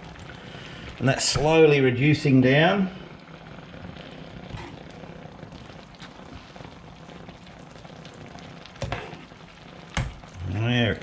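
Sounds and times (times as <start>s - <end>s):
food simmering and sizzling in a pan: 0.0s - 11.0s.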